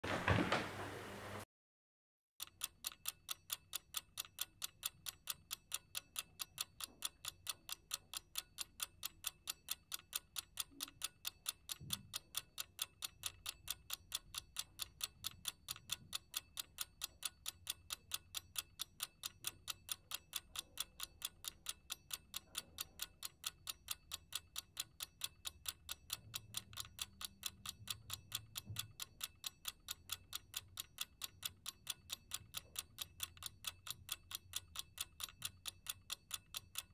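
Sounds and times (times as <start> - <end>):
steady ticking: 2.4 - 36.9.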